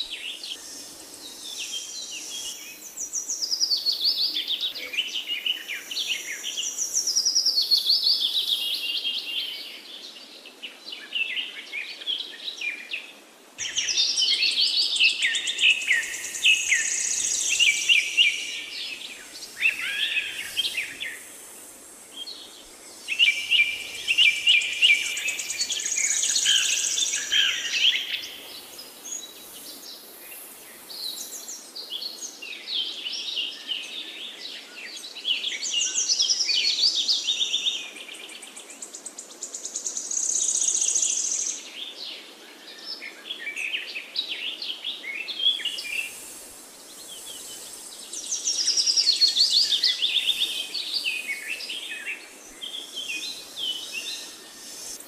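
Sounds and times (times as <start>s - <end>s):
faint steady background noise: 0.0s - 55.0s
songbirds singing and chirping: 0.0s - 55.0s.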